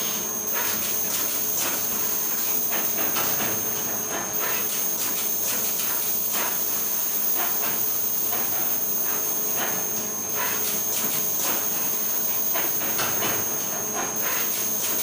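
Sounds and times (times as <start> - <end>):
machinery high-pitched whine: 0.0 - 15.0.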